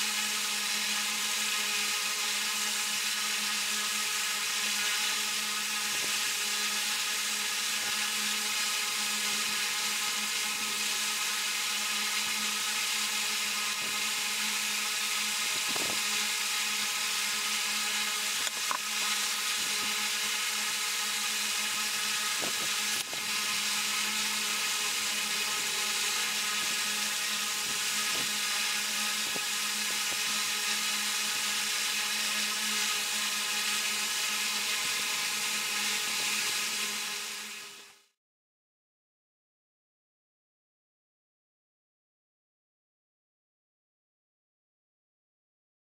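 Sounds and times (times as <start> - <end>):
small electric motor whirring: 0.0 - 38.2.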